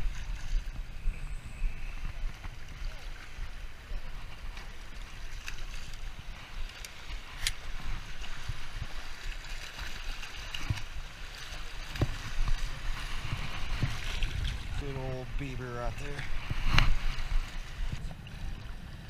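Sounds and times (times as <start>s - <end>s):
wind rumbling on microphone: 0.0s - 19.0s
sharp clicks and splashes: 2.0s - 18.8s
small waves lapping on concrete: 2.0s - 19.0s.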